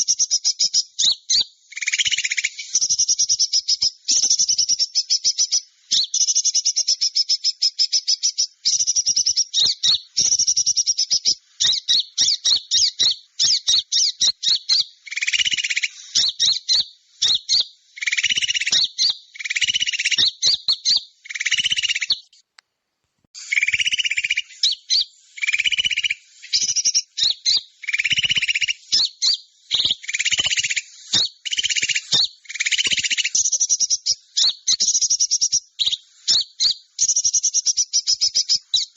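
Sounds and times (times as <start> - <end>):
songbirds chipping and trilling: 0.0 - 22.5, 23.4 - 38.9.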